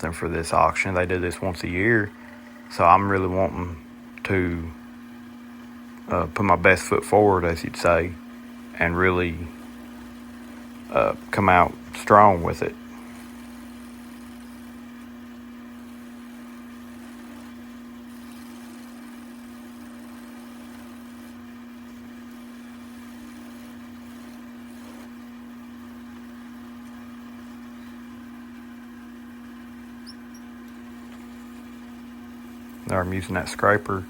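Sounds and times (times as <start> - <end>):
wood lathe humming: 0.0 - 34.0.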